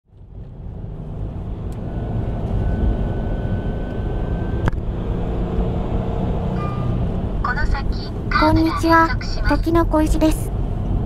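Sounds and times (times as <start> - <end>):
car engine and road rumble: 0.1 - 11.0.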